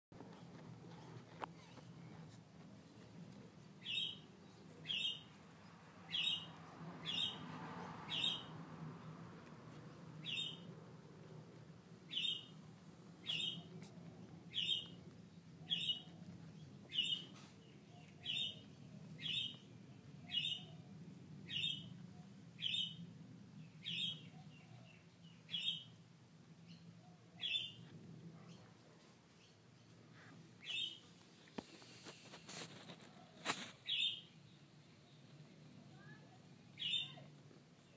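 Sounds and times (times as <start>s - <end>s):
bird chirping: 0.9s - 9.2s, 9.8s - 10.8s, 12.0s - 31.2s, 32.5s - 37.9s.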